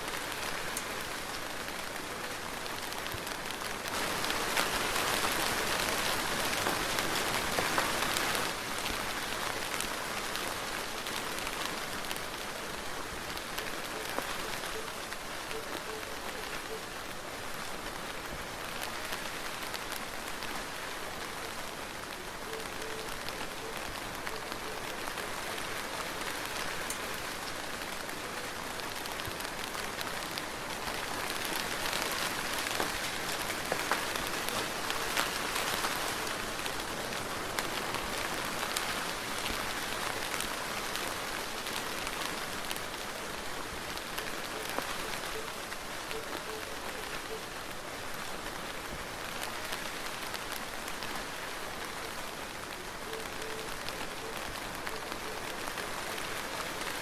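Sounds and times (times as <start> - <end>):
soft steady rain: 0.0 - 57.0.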